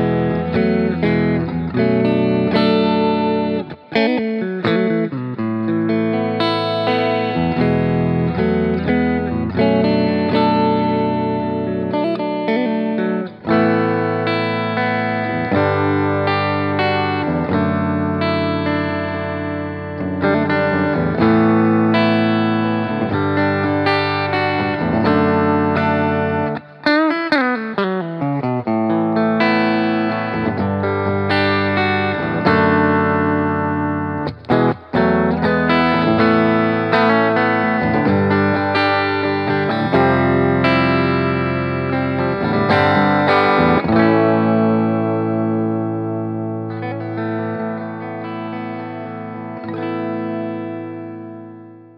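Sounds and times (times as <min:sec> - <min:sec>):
backing track music: 0:00.0 - 0:51.9
electric guitar lead with effects: 0:00.0 - 0:51.9.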